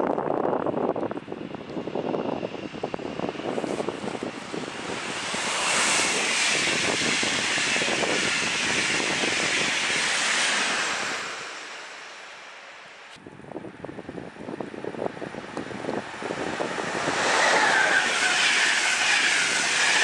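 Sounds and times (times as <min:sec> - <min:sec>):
train passing at speed: 0:01.2 - 0:20.0.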